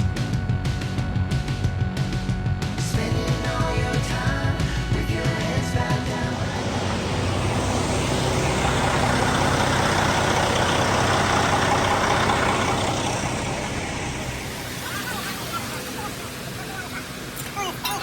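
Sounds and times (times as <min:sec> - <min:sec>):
low hum: 0:01.1 - 0:17.4
steady rushing noise: 0:02.7 - 0:18.0.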